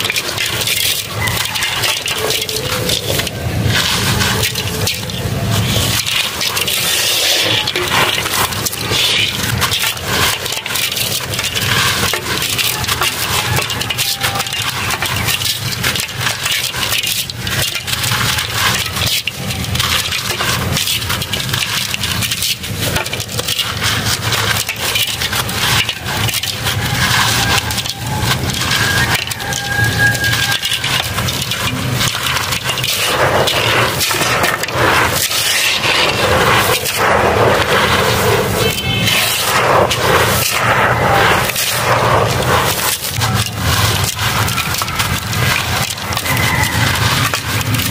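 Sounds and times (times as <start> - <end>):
grains running onto pile: 0.0 - 47.9
hands crushing dry dirt: 0.0 - 47.9.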